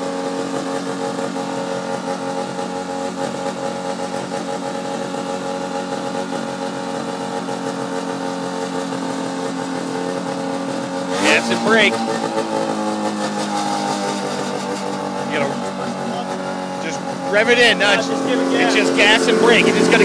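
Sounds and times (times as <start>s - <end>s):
small engine idling: 0.0s - 20.0s.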